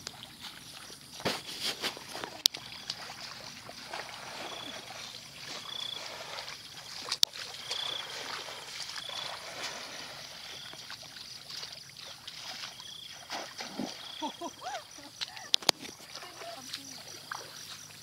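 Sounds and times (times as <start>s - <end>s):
splashing through shallow water: 0.0s - 18.0s.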